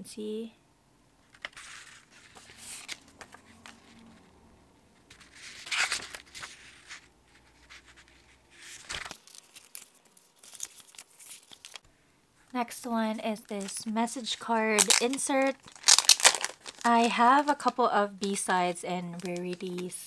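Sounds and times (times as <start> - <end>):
notebook pages rustling: 1.3 - 4.3, 5.0 - 11.9, 13.3 - 20.0.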